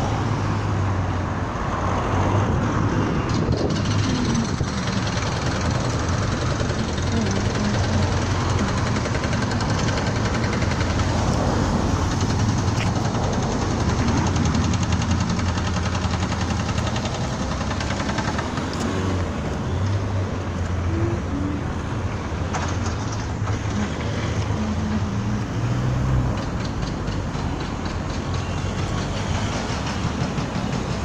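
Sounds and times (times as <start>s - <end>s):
car engines running: 0.0s - 31.0s
low engine drone: 0.0s - 31.0s
tyre noise on road: 0.0s - 31.0s.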